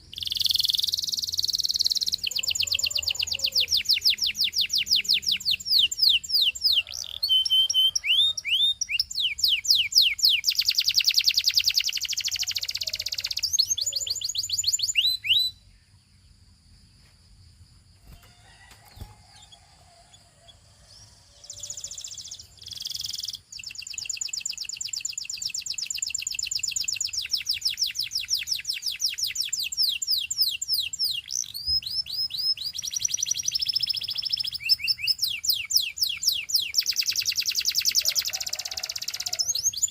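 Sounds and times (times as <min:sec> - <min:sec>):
canary singing trills: 0:00.0 - 0:16.2, 0:18.0 - 0:39.9.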